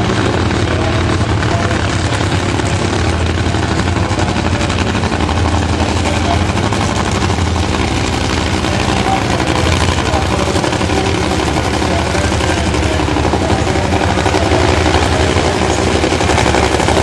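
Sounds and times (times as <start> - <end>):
dragster engine idling crackle: 0.0 - 17.0.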